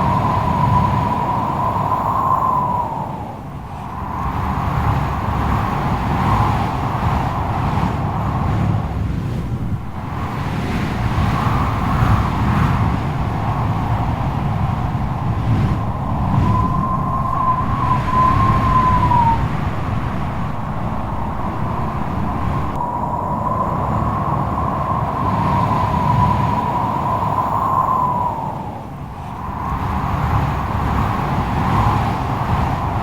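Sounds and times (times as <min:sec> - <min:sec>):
strong wind howling: 0:00.0 - 0:33.0.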